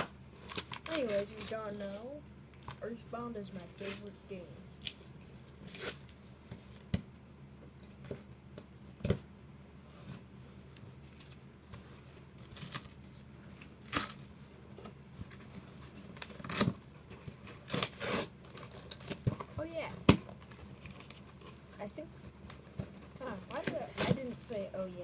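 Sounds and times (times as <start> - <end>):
cardboard rustling and tearing: 0.0 - 2.1, 3.6 - 6.8, 9.9 - 25.0.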